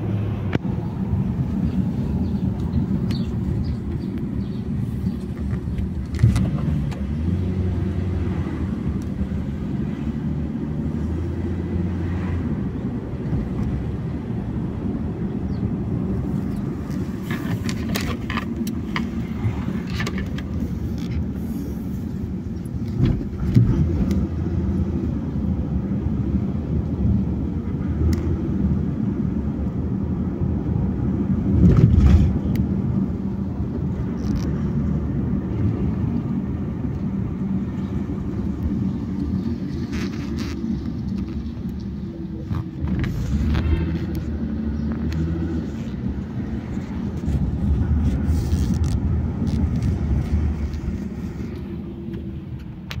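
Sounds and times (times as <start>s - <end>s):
tyre and engine rumble: 0.0s - 53.0s.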